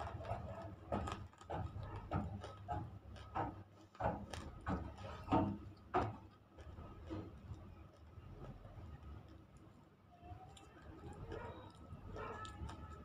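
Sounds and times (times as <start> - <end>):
sharp dry crunches of chewing: 0.0 - 13.0.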